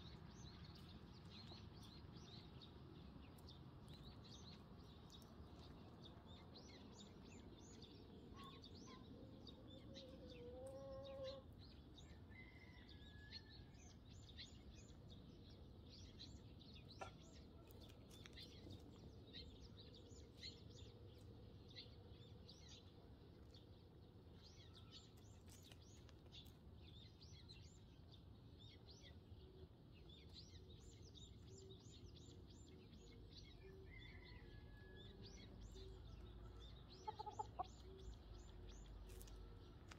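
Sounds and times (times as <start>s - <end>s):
sparrows chirping: 0.0s - 13.2s, 13.8s - 39.9s.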